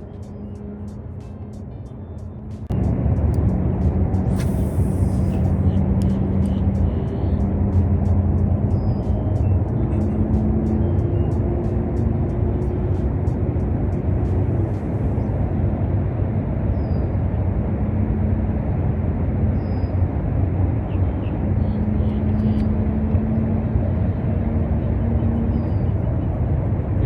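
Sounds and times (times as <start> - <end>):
boat motor humming: 0.0 - 27.0.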